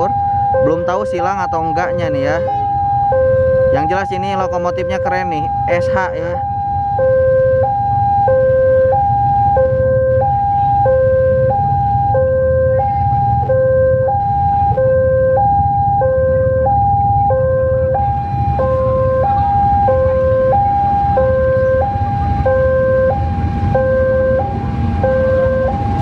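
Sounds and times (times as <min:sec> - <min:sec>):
diesel locomotive rumble: 0:00.0 - 0:26.0
two-tone level crossing alarm: 0:00.0 - 0:26.0.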